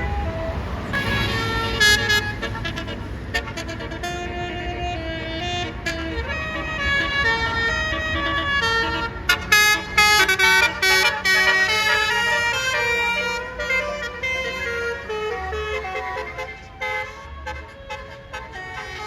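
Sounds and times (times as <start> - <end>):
bus engine rumble: 0.0 - 19.0
bus musical horn melody: 0.0 - 19.0.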